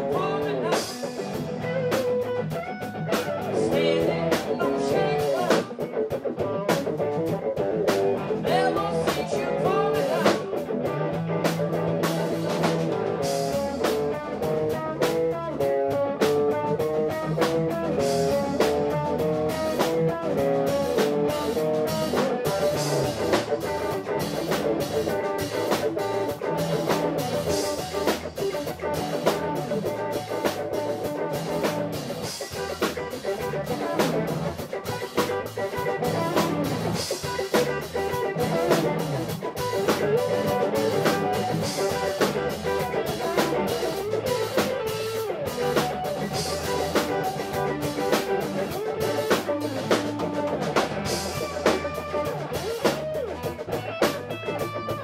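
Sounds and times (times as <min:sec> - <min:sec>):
bass guitar: 0:00.0 - 0:55.0
drum kit: 0:00.0 - 0:55.0
electric guitar line: 0:00.0 - 0:55.0.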